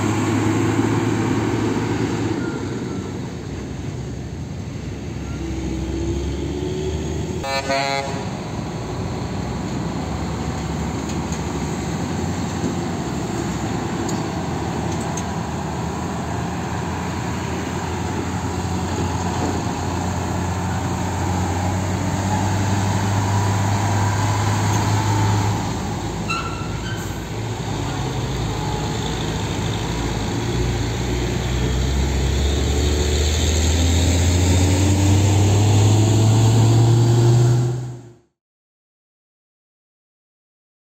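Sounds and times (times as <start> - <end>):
truck diesel engine accelerating: 0.0 - 38.2.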